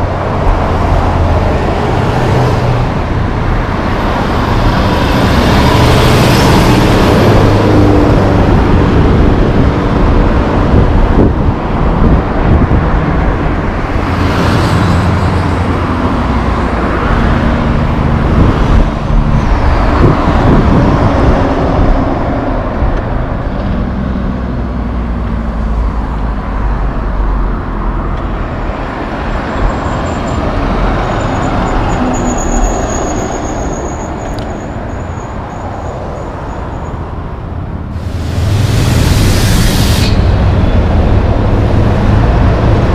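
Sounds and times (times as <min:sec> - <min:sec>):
traffic passing: 0:00.0 - 0:42.9.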